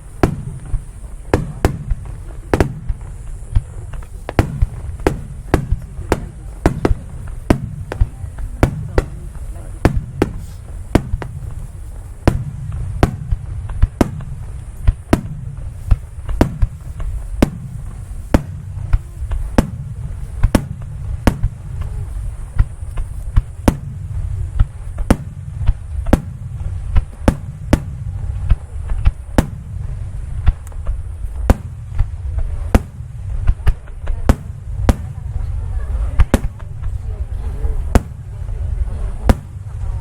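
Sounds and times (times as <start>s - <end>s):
firework shell bursts: 0.0s - 35.4s
low rumble of booms: 0.0s - 40.0s.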